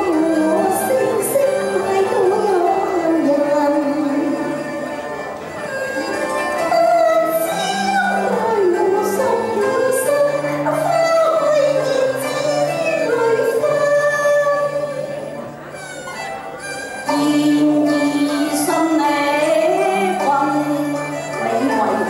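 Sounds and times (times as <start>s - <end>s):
woman singing: 0.0s - 4.8s, 6.4s - 15.0s, 17.1s - 22.0s
instrumental accompaniment: 0.0s - 22.0s.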